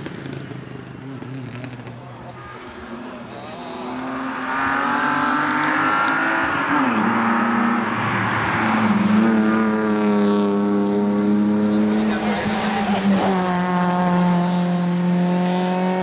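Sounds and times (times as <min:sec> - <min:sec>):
rally car engines at full throttle: 0:00.0 - 0:16.0.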